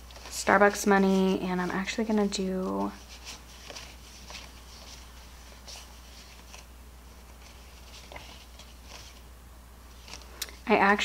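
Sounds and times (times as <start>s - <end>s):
paper bills rustling: 0.0s - 9.3s, 9.9s - 10.4s
steady low hum: 0.0s - 11.0s.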